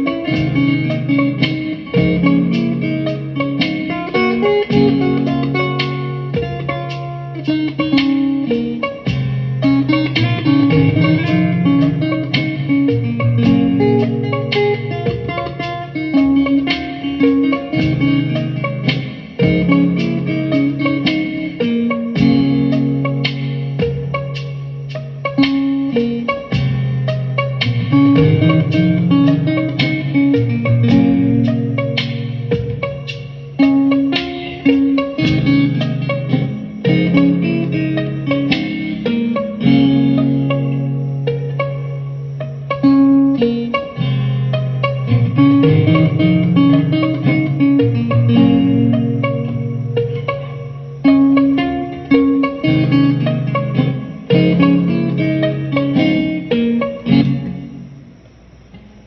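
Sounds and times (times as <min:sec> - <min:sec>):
plucked guitar notes: 0:00.0 - 0:59.0.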